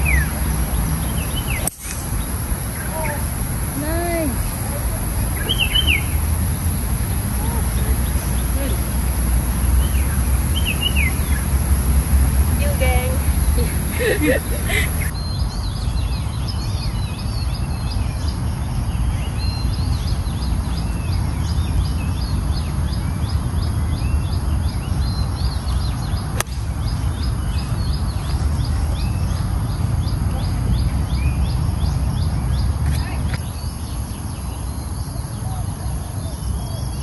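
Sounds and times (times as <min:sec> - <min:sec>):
birds chirping: 0:00.0 - 0:37.0
steady low rumble: 0:00.0 - 0:37.0.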